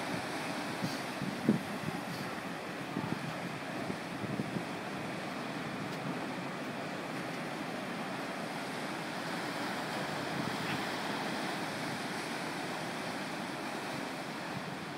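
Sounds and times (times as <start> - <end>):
ocean waves breaking: 0.0 - 14.9.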